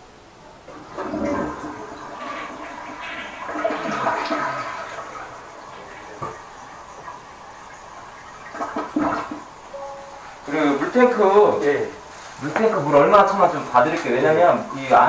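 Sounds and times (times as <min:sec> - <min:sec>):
toilet flushing: 0:00.5 - 0:15.0.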